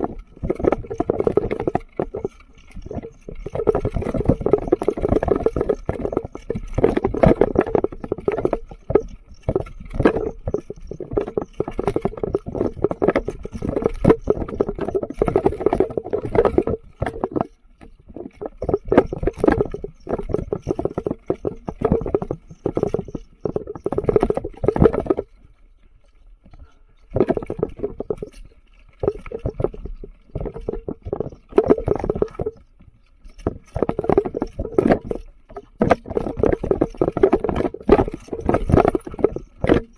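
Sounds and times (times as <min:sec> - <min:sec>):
mountain bike rattling over stony trail: 0:00.0 - 0:39.9.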